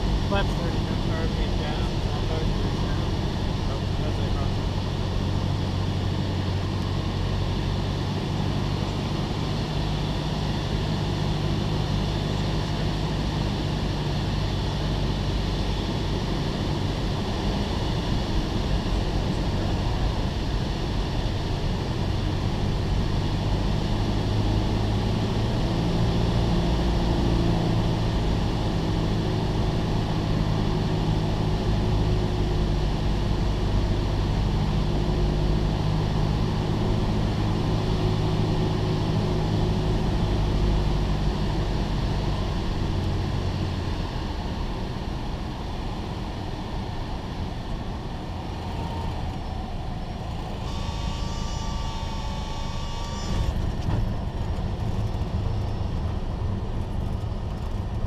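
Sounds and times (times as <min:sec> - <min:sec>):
small plane engine droning: 0:00.0 - 0:58.0.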